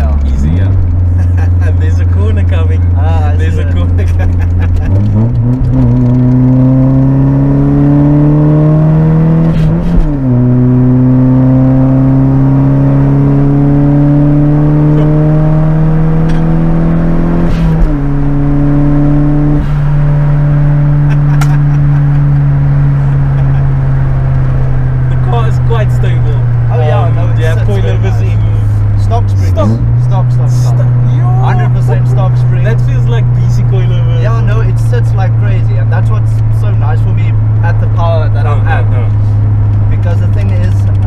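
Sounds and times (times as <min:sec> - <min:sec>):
turbocharged engine accelerating: 0:00.0 - 0:41.0.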